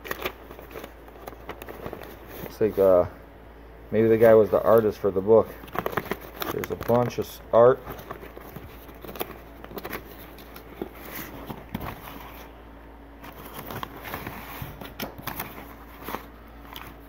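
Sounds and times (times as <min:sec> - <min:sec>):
paper sheets rustling: 0:00.0 - 0:03.0, 0:04.2 - 0:12.6, 0:13.2 - 0:17.0.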